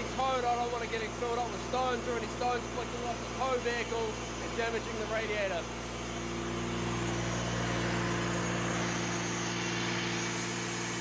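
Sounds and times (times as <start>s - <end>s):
diesel compressor engine running: 0.0s - 11.0s.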